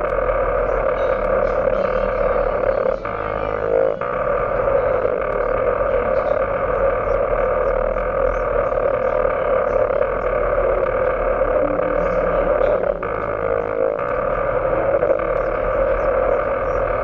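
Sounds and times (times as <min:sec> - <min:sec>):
harsh distorted noise music drone: 0:00.0 - 0:17.0
high crackles: 0:00.0 - 0:17.0
rising electronic tone: 0:00.0 - 0:17.0.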